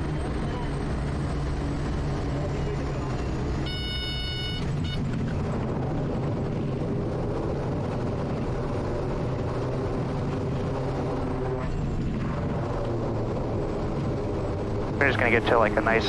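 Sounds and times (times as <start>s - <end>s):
turboprop engine and propeller: 0.0s - 16.0s.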